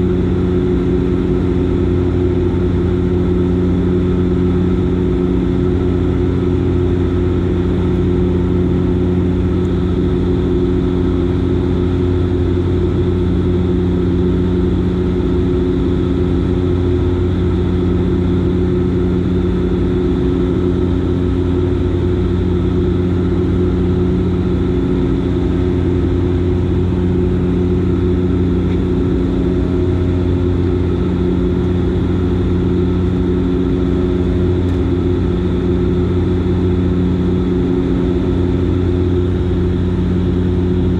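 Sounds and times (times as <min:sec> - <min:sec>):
low propeller hum: 0:00.0 - 0:40.9
turboprop engines droning: 0:00.0 - 0:40.9.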